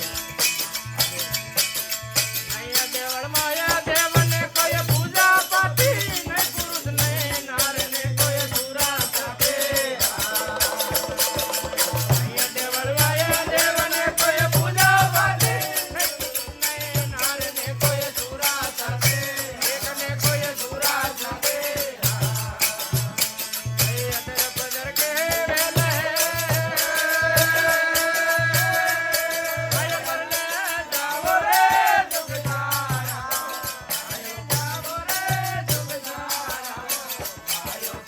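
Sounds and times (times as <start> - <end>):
devotional music with fast percussion: 0.0 - 38.0.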